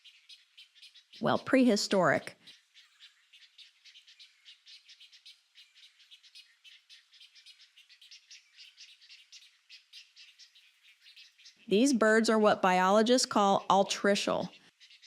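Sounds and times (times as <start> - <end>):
faint rapid bird chirping: 0.0 - 15.0.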